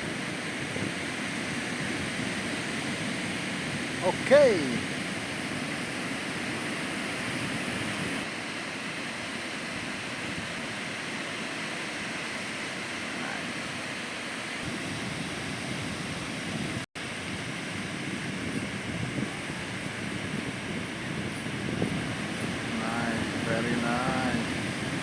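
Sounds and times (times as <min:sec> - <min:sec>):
surf breaking on beach: 0:00.0 - 0:25.0.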